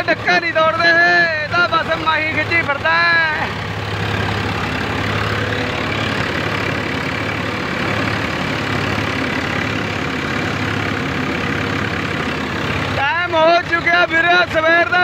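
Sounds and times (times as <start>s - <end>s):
tractor engine and reaper hum: 0.0s - 15.0s.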